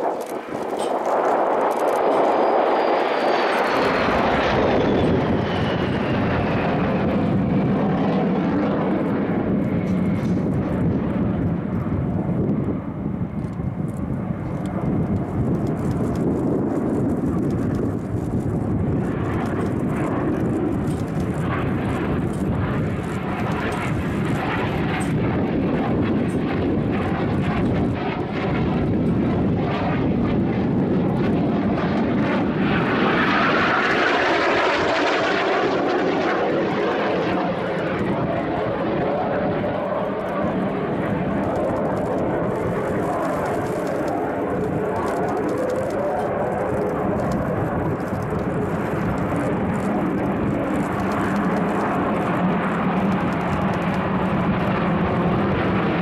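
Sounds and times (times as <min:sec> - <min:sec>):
high-pitched jet whine: 0:00.0 - 0:51.9
jet engines roaring: 0:00.0 - 0:56.0.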